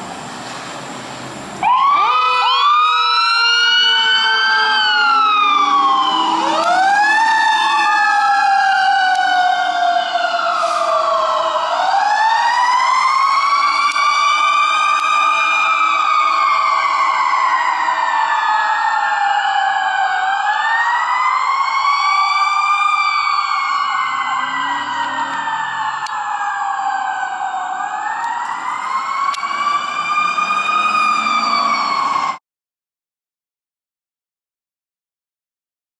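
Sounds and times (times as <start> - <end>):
emergency siren wailing: 1.3 - 32.4.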